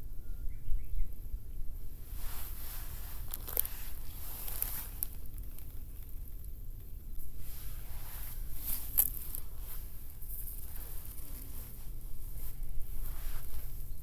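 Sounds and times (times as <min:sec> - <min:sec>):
rustling handling noise: 0:01.8 - 0:14.0.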